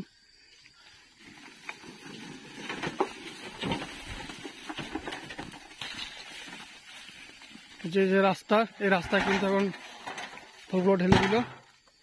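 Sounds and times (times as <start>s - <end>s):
footsteps on grass: 1.2s - 11.1s
wheelbarrow rattling over grass: 1.2s - 11.8s.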